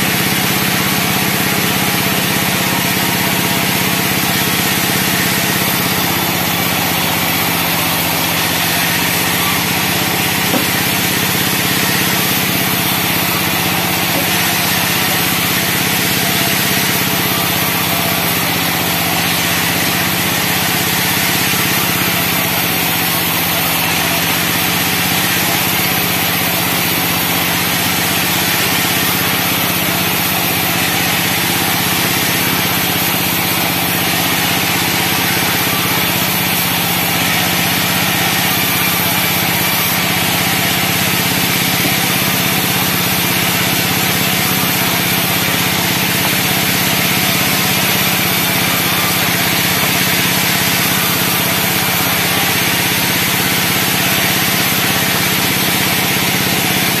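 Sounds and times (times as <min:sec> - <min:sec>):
band saw blade whirring: 0:02.9 - 0:56.9.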